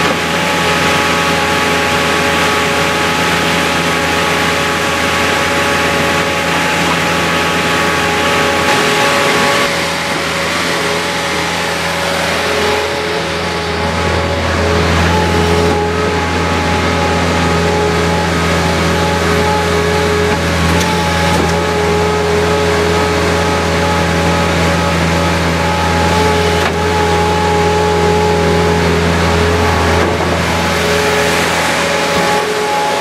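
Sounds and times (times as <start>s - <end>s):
diesel engine low drone: 0.0s - 33.0s
steady whine: 0.0s - 33.0s.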